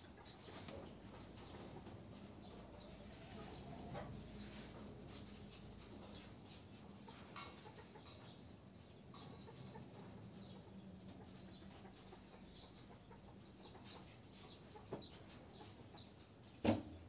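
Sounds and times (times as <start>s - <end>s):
pigeons tapping and scratching: 0.0s - 17.0s.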